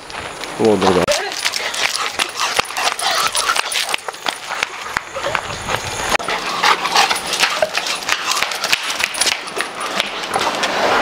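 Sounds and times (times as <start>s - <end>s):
dogs trotting on paving: 0.0s - 11.0s
leash metallic jingles: 0.9s - 11.0s.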